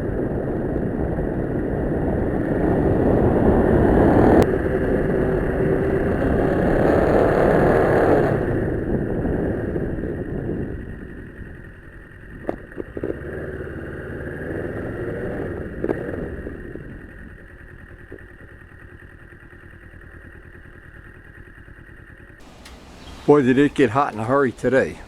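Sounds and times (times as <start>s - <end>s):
motorcycle engine running: 0.1s - 25.0s.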